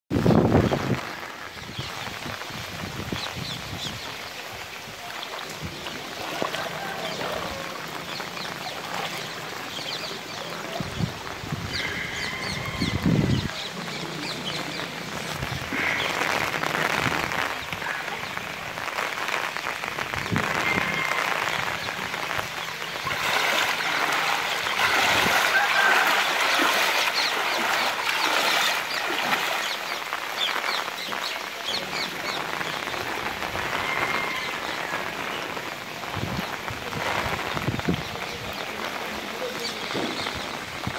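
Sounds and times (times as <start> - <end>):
rain and running water: 0.1 - 40.9.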